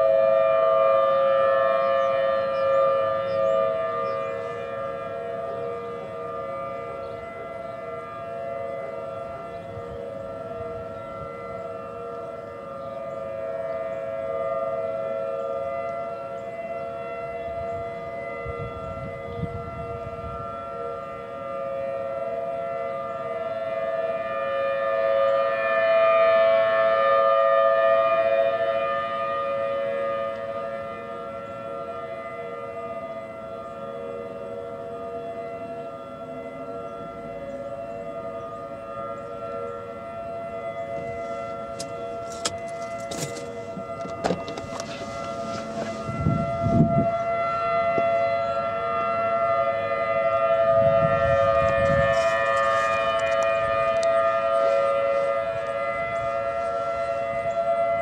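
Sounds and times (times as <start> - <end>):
warning sirens wailing: 0.0 - 58.0.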